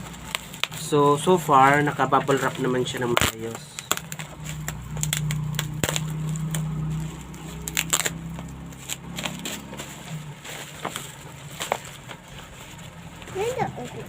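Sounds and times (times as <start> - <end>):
bubble wrap crackling: 0.0 - 14.0.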